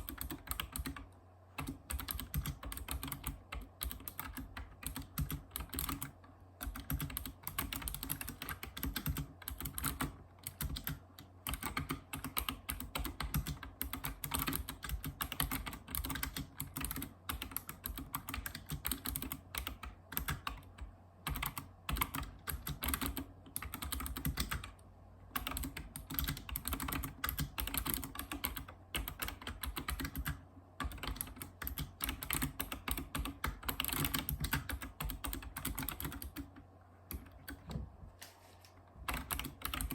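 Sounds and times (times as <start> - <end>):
keyboard typing clicks: 0.0 - 37.9, 39.0 - 39.9.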